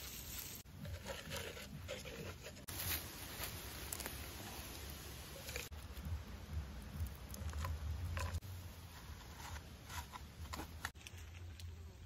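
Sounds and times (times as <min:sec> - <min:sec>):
charcoal crackling and pattering: 0:00.0 - 0:11.8.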